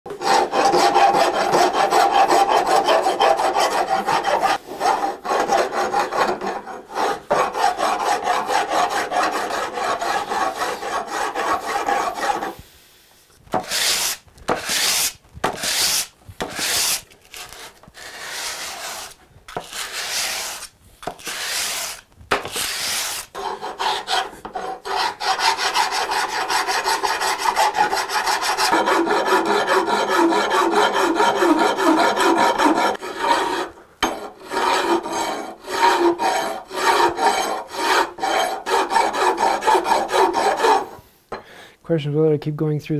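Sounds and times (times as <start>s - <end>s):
rasp scraping wood: 0.1s - 12.6s, 13.5s - 41.0s.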